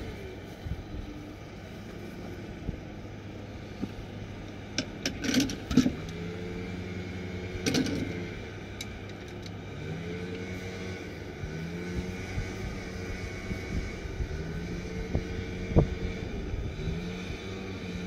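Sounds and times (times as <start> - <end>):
vehicle motor whine: 0.0 - 18.0.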